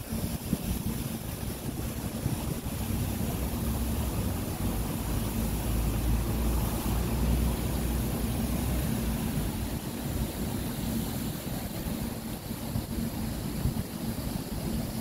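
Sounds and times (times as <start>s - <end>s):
city traffic hum: 0.0s - 15.0s
wind buffeting microphone: 0.0s - 15.0s.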